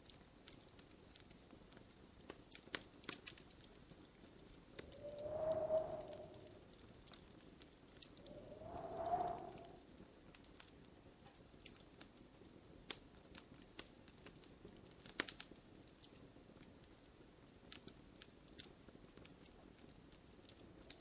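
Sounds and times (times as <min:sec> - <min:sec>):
faint low hiss: 0:00.0 - 0:21.0
fire crackling and popping: 0:00.0 - 0:21.0.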